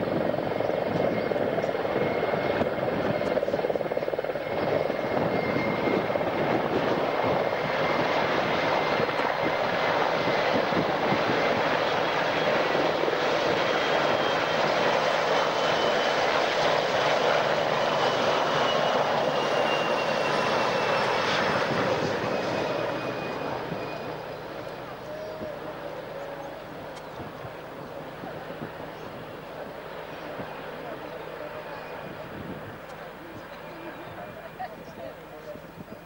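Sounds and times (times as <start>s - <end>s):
helicopters flying past: 0.0s - 36.0s.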